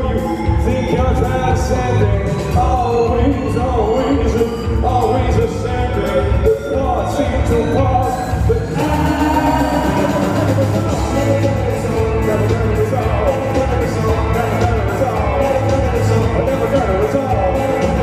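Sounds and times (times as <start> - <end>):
live rock band: 0.0 - 18.0
person singing: 0.0 - 18.0.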